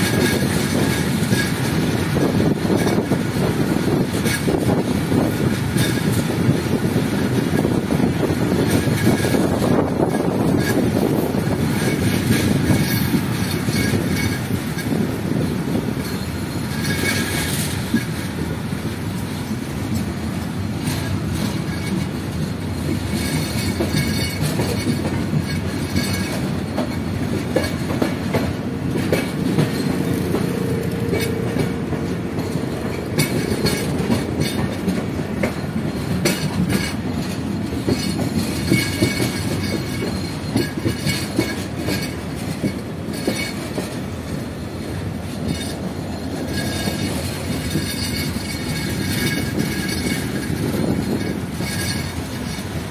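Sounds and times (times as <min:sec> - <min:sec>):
rail joint clicks: 0:00.0 - 0:52.9
train wheels rumbling on rail: 0:00.0 - 0:52.9.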